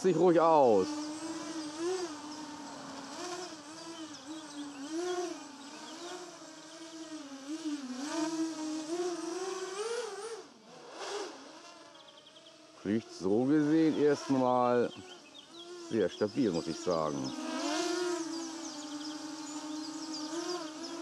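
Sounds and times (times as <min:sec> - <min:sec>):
quadcopter buzzing whine: 0:00.0 - 0:21.0.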